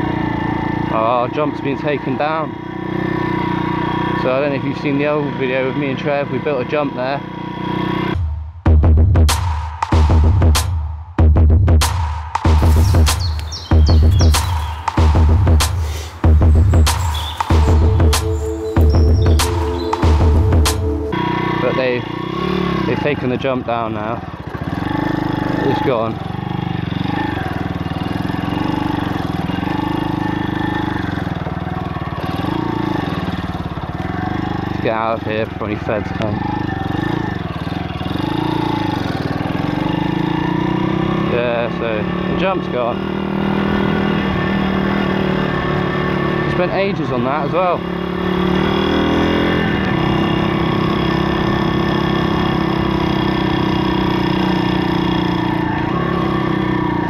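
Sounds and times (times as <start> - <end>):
motorbike engine running: 0.0 - 10.6, 11.4 - 57.0.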